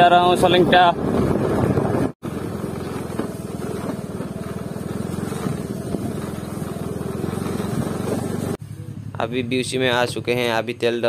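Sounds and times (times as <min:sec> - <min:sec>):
scooter engine puttering: 0:01.1 - 0:10.6.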